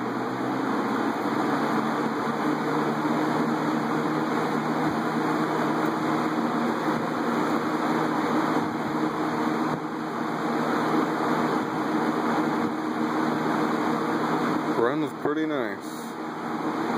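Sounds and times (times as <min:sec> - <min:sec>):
box fan running: 0:00.0 - 0:16.9.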